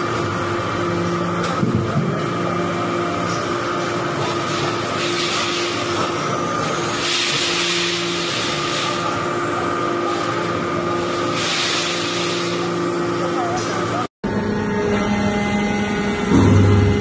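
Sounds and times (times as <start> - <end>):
press machine hum and whine: 0.0 - 17.0.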